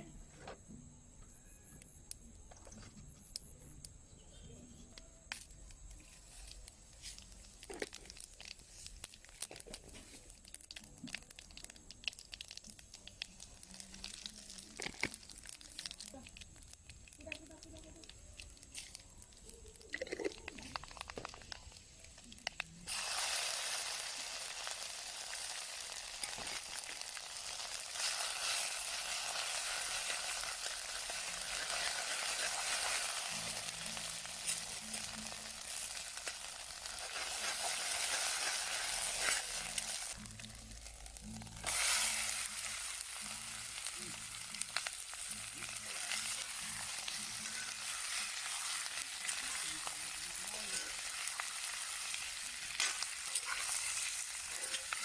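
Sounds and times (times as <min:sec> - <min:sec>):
food sizzling in hot oil: 0:05.3 - 0:55.0.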